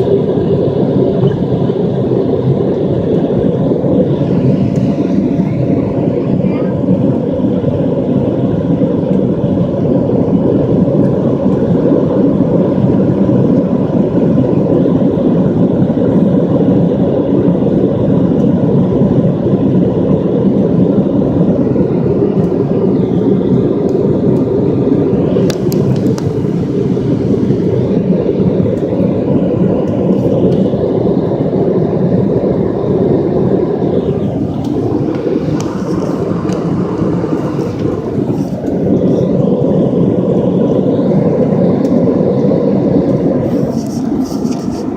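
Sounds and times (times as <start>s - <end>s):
faint steady hum: 0.0s - 44.9s
jet engines rumbling: 0.0s - 44.9s.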